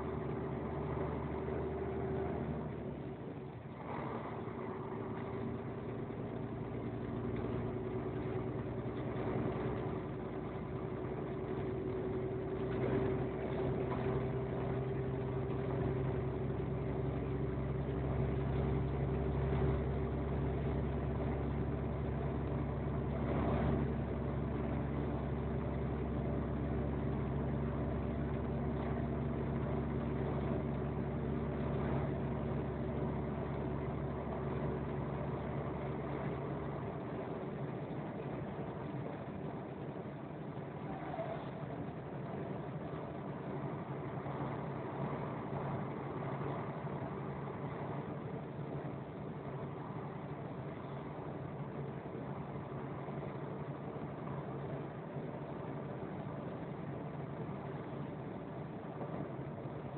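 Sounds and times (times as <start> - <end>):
vehicle engine droning: 0.0 - 59.9.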